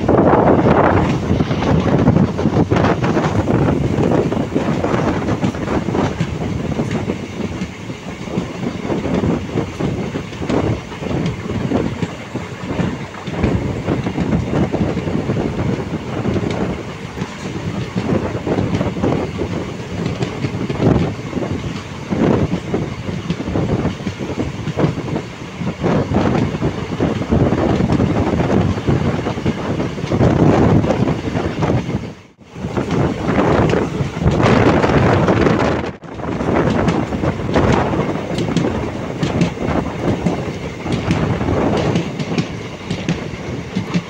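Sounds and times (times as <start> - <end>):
train rushing noise: 0.0 - 44.0.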